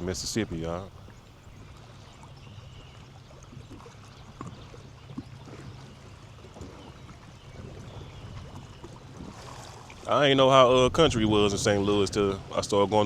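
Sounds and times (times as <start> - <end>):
water splashes: 0.0 - 13.0.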